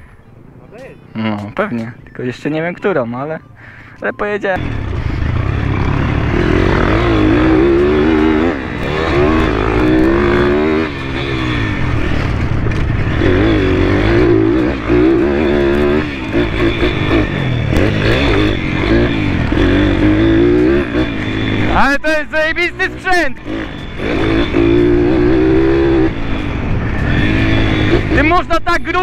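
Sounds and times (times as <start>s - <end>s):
motorbike engine revving: 4.6s - 29.0s.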